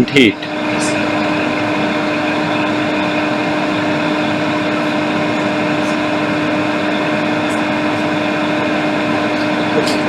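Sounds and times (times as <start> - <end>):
fan hum: 0.0 - 10.0.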